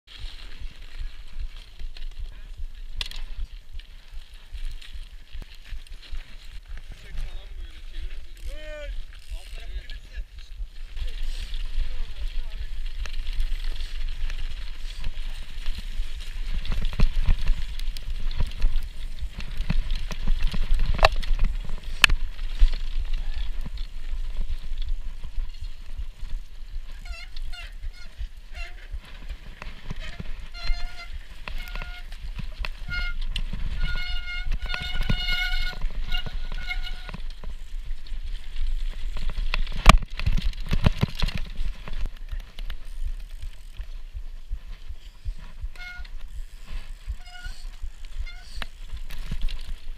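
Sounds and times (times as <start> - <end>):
bike rattle and tyre noise: 0.1 - 49.9.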